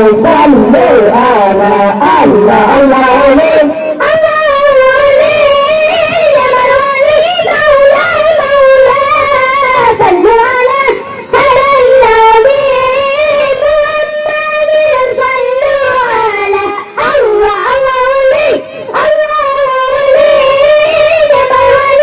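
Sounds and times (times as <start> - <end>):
child singing high: 1.6 - 22.0.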